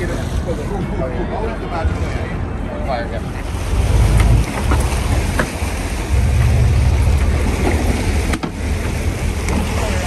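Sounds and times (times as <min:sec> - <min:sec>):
water rushing along boat hull: 0:00.0 - 0:10.0.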